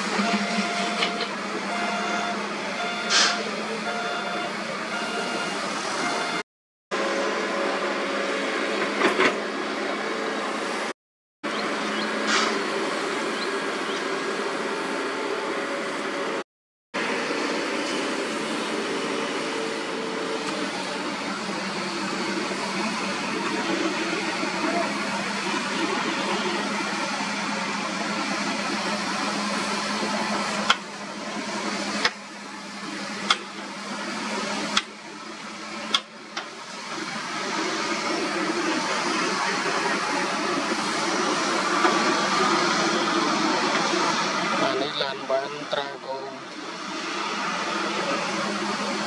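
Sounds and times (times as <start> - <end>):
diesel engines droning: 0.0 - 16.4, 17.0 - 49.0.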